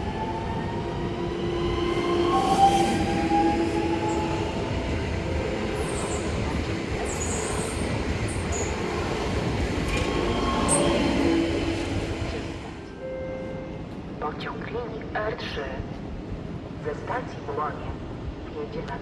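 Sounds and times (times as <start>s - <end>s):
train rumbling over tracks: 0.0s - 19.0s.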